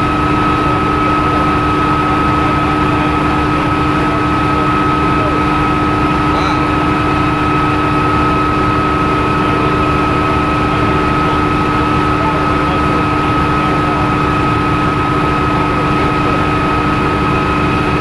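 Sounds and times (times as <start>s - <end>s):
helicopter engine and rotor rumble: 0.0s - 18.0s
steady high whine: 0.0s - 18.0s.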